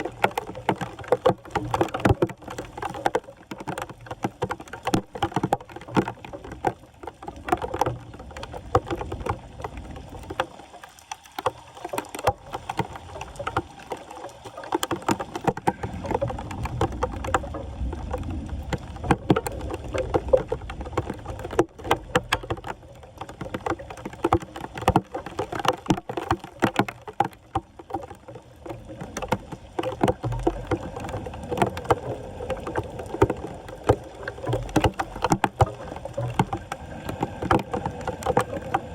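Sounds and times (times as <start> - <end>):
floodwater splashing and sloshing: 0.0 - 38.9.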